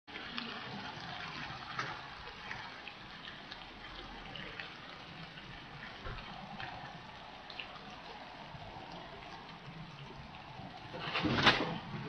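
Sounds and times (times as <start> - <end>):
rain falling: 0.1 - 12.0
raindrops ticking: 0.1 - 12.0.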